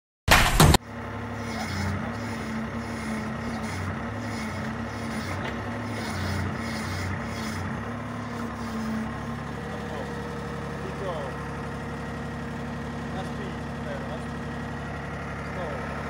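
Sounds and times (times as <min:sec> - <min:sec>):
pile driver engine idling: 0:00.3 - 0:16.0.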